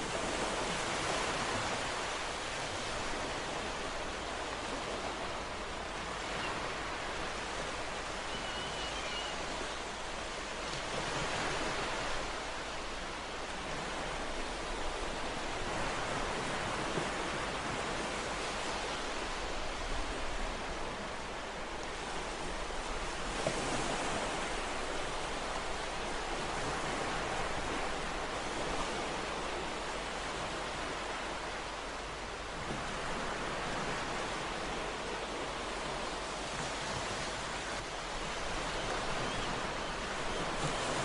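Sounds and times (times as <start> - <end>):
ocean waves washing ashore: 0.0 - 41.0.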